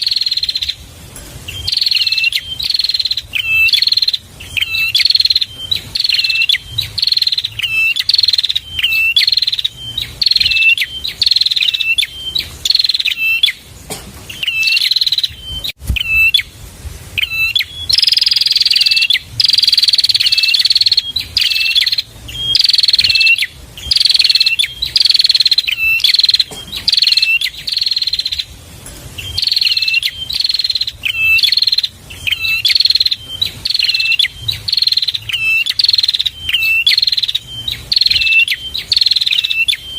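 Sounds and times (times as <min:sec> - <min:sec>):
small bird chirping song: 0:00.0 - 0:39.9.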